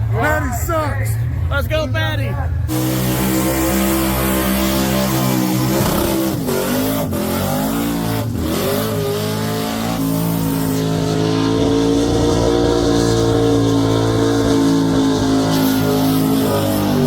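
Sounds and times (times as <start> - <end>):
car engine under hard throttle: 2.4 - 17.0.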